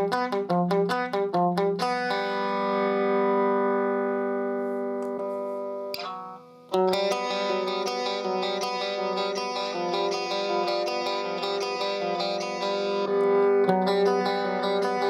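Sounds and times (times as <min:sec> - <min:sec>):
electric guitar notes and chords: 0:00.0 - 0:15.0.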